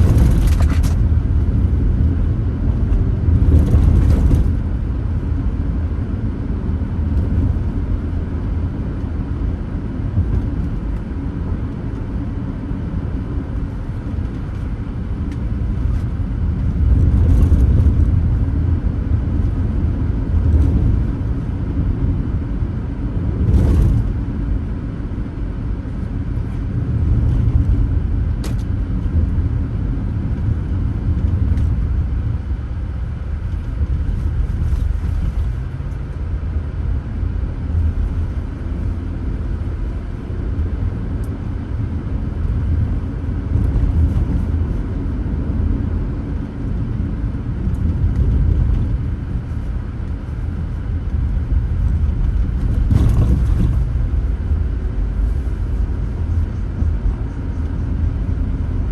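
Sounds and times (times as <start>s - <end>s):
car tyres and engine rumble: 0.0s - 58.9s.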